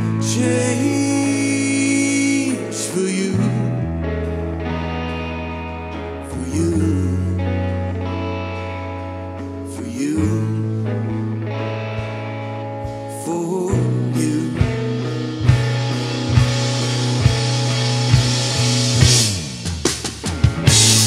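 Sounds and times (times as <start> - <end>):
bass guitar held notes: 0.0 - 21.0
electric guitar lead notes: 0.0 - 21.0.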